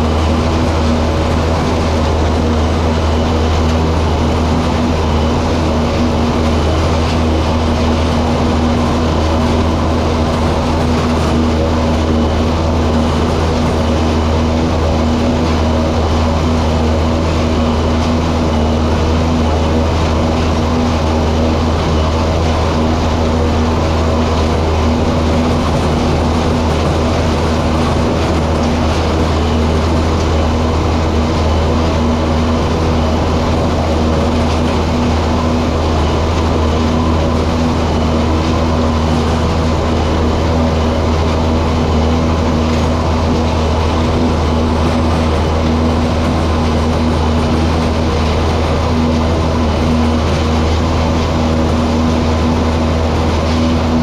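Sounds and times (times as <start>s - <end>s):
tractor and harvester running: 0.0s - 54.0s.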